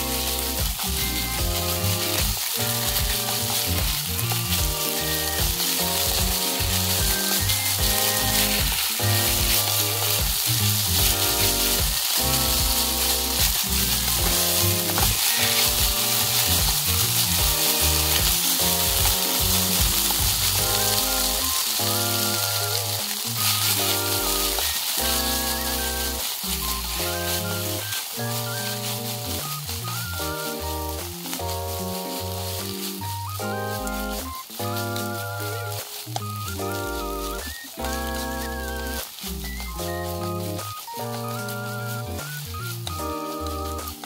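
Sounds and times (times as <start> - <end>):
background music: 0.0 - 44.0
chopsticks stirring in pan: 0.0 - 44.0
pork sizzling in a frying pan: 0.0 - 44.0.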